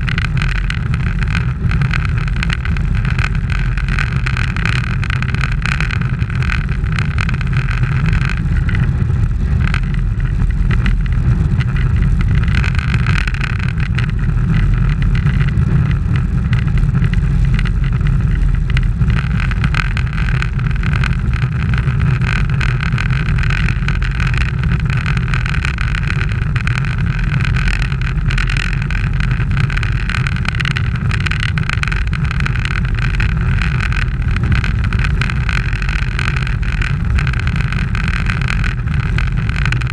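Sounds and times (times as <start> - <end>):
road rumble: 0.0 - 39.9
wind noise: 0.0 - 39.9.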